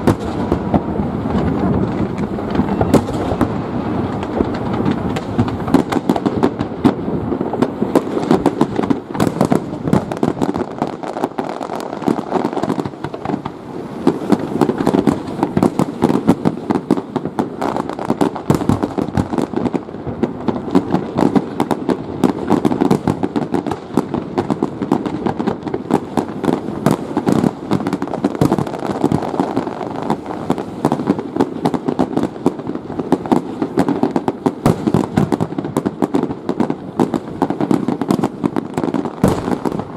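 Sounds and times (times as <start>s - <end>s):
fireworks bursts and crackling: 0.0s - 39.9s.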